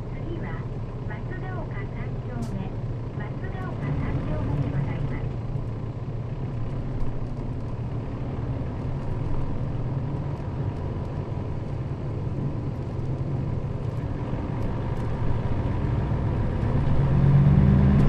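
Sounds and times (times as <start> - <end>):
bus diesel engine drone: 0.0 - 18.0
road noise inside bus: 0.0 - 18.0.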